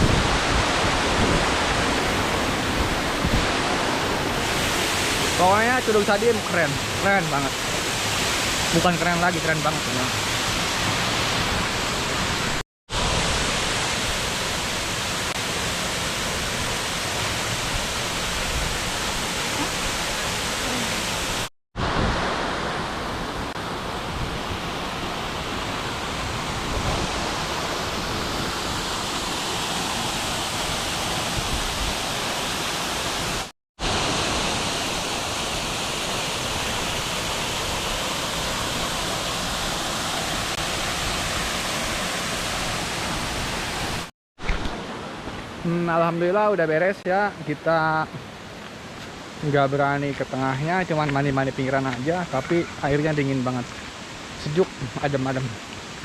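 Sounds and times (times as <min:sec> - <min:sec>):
waterfall roaring: 0:00.0 - 0:46.0, 0:48.2 - 0:56.0.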